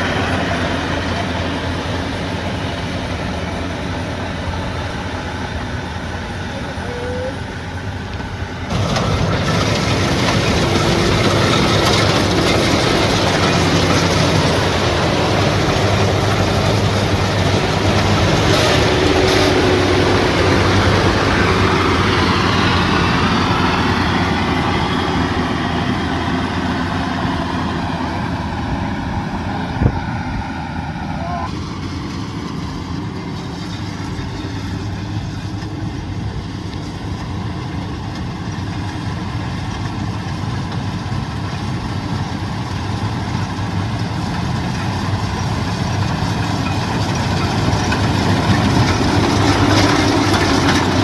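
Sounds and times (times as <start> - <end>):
combine harvester running: 0.0 - 51.0.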